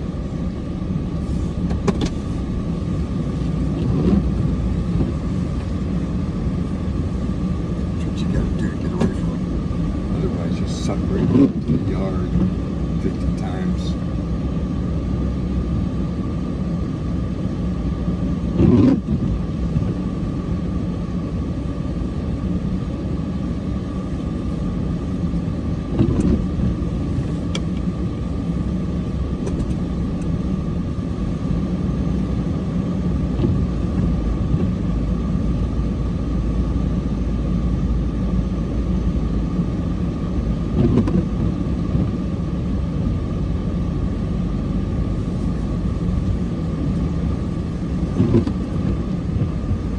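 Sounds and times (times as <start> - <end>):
diesel truck engine running: 0.0 - 49.9.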